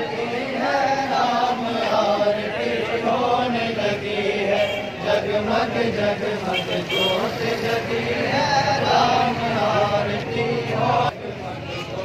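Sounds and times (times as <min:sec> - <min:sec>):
group chanting: 0:00.0 - 0:12.0.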